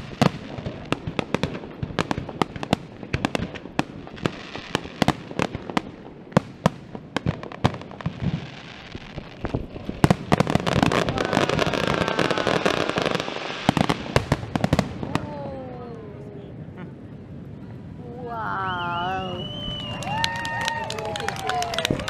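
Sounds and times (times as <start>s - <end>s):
fireworks bursting: 0.0s - 22.0s
fireworks crackling: 0.0s - 22.0s.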